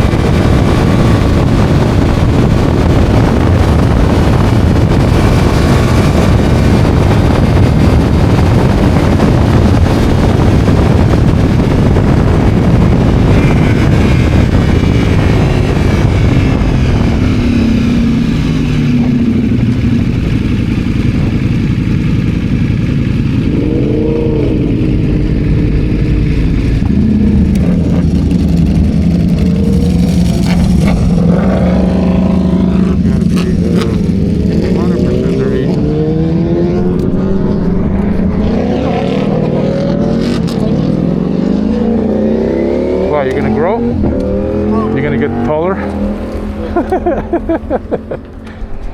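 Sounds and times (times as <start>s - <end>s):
motorcycle engine: 0.0s - 48.9s
wind rush: 0.0s - 48.9s.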